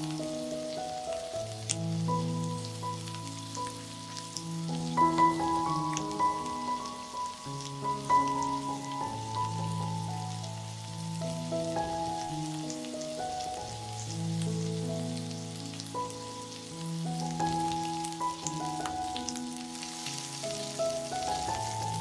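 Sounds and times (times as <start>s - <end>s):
kebabs sizzling on a grill pan: 0.0s - 22.0s
soft background music: 0.0s - 22.0s.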